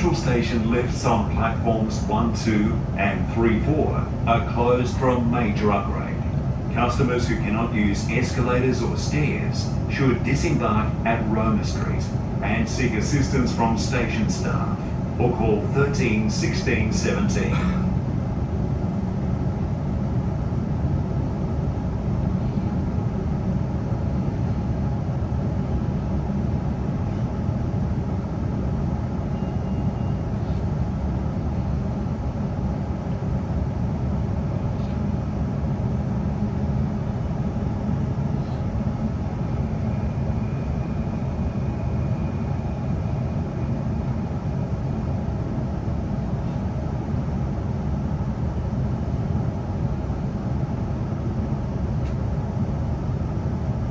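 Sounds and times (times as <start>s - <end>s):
electric train rumbling: 0.0s - 53.9s.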